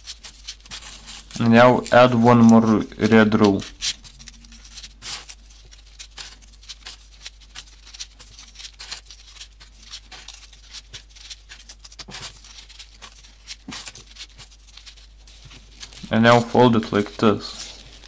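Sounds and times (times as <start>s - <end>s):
folded paper rustling and clicking: 0.0s - 18.0s.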